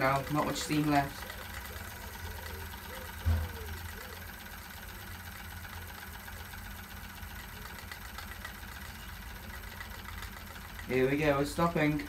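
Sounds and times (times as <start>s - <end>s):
model steam engine running: 0.0s - 12.0s.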